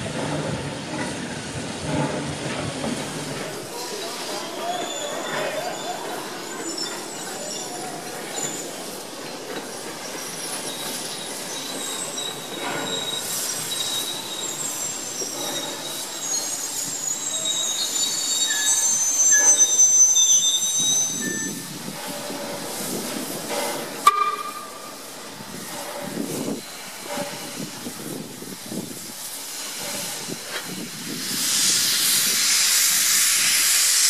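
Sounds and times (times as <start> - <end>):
train rumble: 0.0 - 34.0
train wheels squealing: 1.9 - 34.0.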